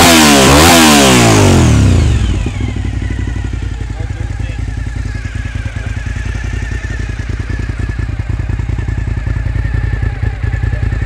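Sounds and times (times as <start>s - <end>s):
motorcycle engine idling: 1.2s - 11.0s.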